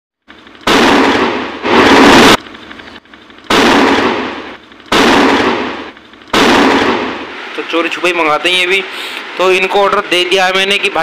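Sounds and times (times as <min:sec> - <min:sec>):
echoing blast noise: 0:00.3 - 0:10.9
firecrackers exploding: 0:00.4 - 0:09.7.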